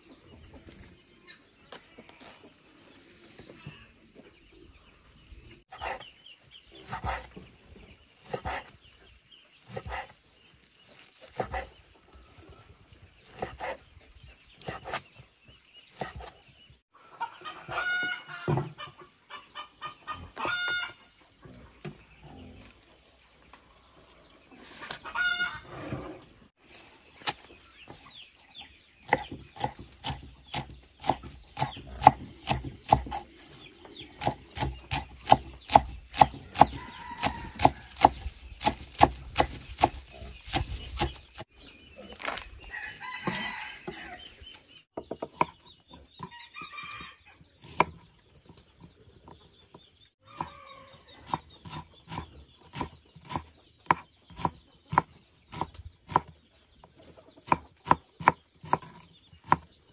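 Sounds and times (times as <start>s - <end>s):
chickens calling: 0.0s - 59.9s.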